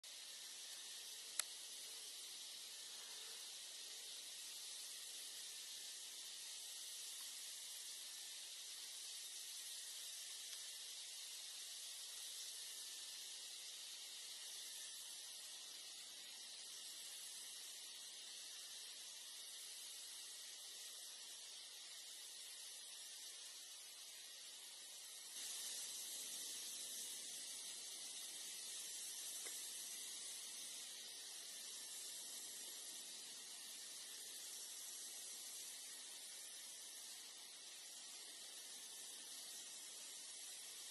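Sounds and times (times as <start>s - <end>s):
steady high-pitched hiss: 0.0s - 40.9s.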